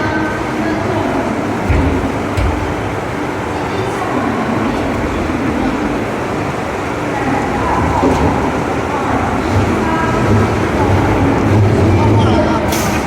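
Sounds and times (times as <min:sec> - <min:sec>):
lathe clattering and rumbling: 0:00.0 - 0:13.0.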